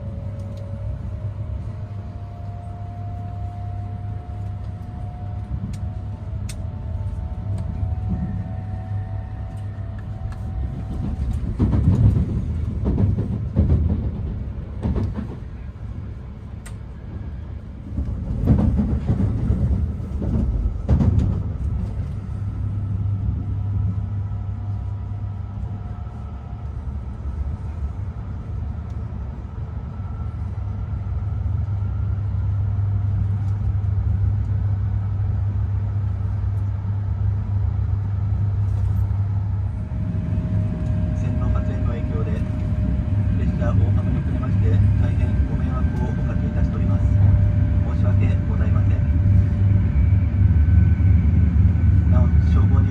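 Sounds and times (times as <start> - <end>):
train running rumble: 0.0 - 52.9.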